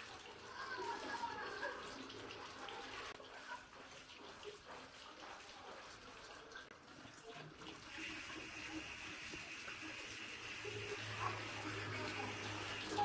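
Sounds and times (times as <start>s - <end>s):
tap water running: 0.0s - 13.0s.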